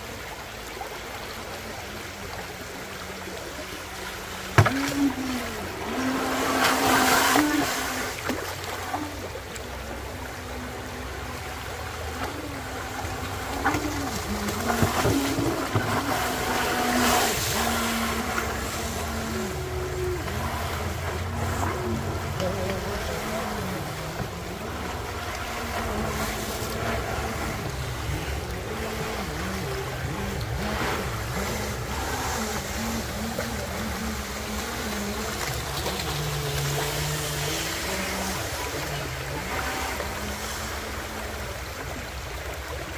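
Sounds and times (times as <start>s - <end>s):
distant boat motor hum: 0.0s - 42.9s
rushing water: 0.0s - 42.9s.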